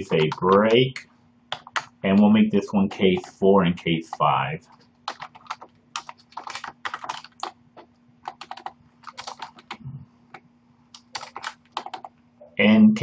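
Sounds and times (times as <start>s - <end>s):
typing on a keyboard: 0.0s - 3.4s, 4.1s - 7.6s, 8.2s - 12.2s
faint steady hum: 0.0s - 13.0s.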